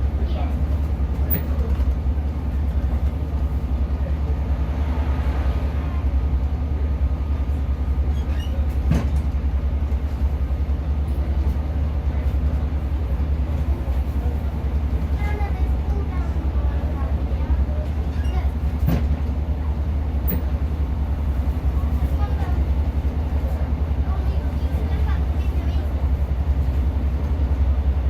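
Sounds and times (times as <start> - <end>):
train diesel engine drone: 0.0 - 28.0.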